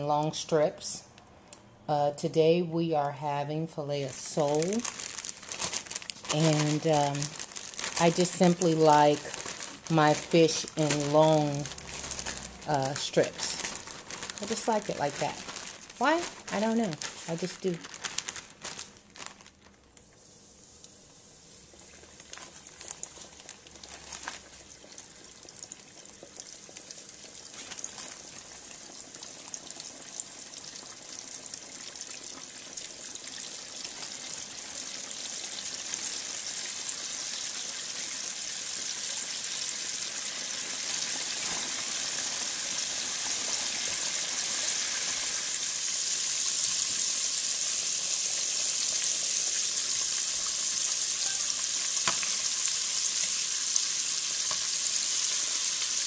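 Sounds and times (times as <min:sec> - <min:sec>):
fish deep-frying in hot oil: 0:04.2 - 0:56.0.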